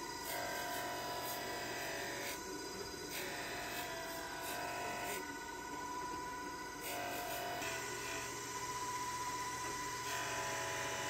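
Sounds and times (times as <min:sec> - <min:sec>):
surface grinder whine: 0:00.0 - 0:11.0.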